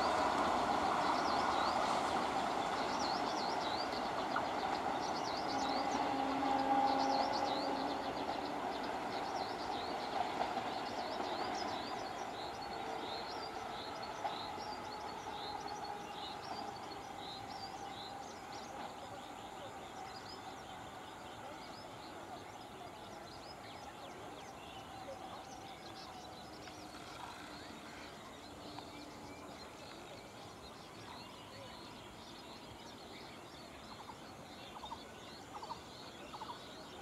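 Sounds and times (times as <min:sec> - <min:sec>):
train rumbling on track: 0:00.0 - 0:37.0.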